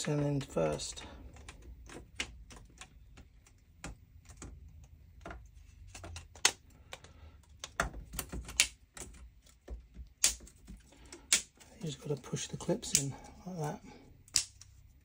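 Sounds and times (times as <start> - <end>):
plastic clips clicking: 0.4 - 11.7, 12.7 - 14.8.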